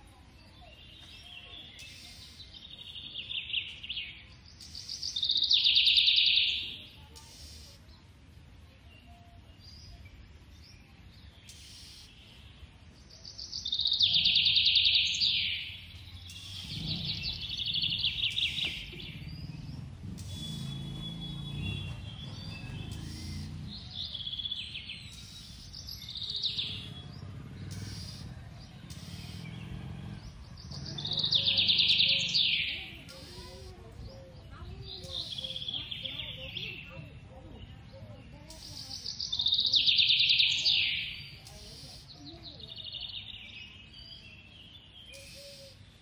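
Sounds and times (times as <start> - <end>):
rapid high bird-like chirping: 0.0 - 46.0.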